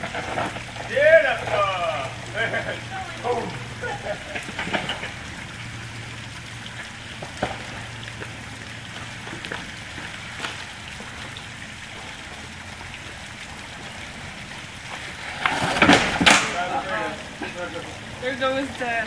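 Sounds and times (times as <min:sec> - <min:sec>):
rocks cracking under tyres: 0:00.0 - 0:18.6
low engine hum: 0:00.0 - 0:19.0.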